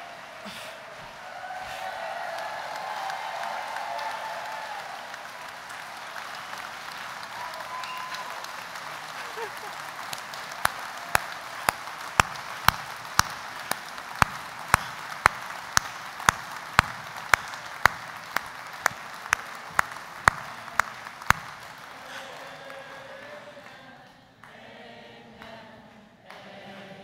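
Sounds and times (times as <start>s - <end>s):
loud hand-clapping: 0.0s - 23.4s
audience applause: 0.0s - 23.8s.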